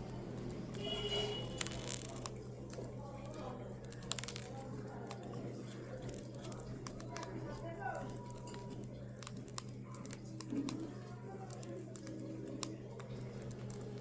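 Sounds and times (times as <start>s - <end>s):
birds pecking seed: 0.0s - 14.0s.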